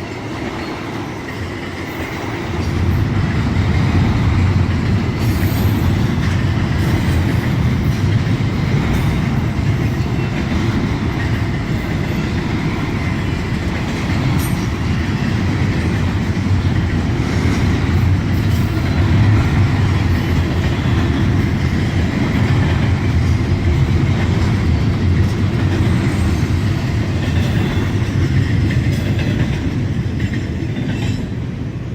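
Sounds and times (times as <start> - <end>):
freight train rumbling past: 0.0 - 31.9
wheels clickety-clack on rails: 0.0 - 31.9.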